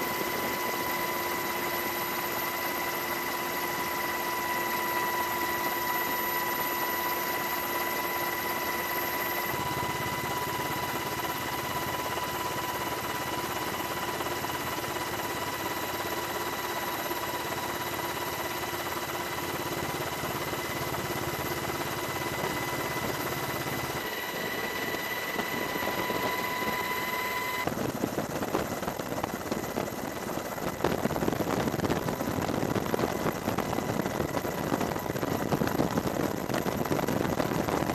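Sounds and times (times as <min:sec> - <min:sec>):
helicopter drone with whine: 0:00.0 - 0:37.9.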